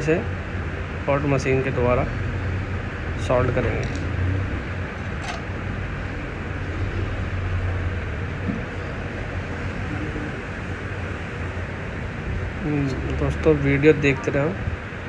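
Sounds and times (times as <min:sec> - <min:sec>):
hot-air station blowing air: 0:00.0 - 0:15.0
low fan hum: 0:00.0 - 0:15.0.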